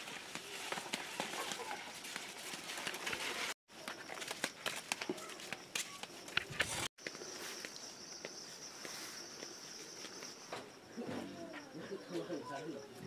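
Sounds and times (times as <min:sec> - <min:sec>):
maize leaves rustling: 0:00.0 - 0:10.5
footsteps on dirt and stone path: 0:00.0 - 0:11.7.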